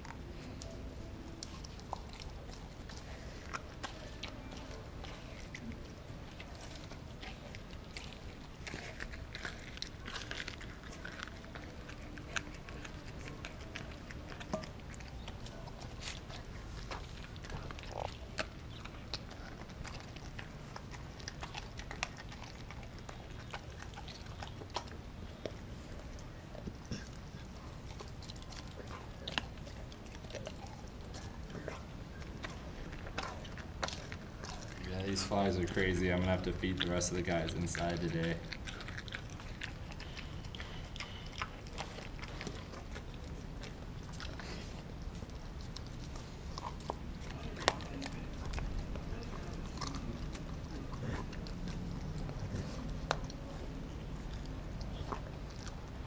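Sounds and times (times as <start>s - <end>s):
dog gnawing frozen meat: 0.0s - 56.0s.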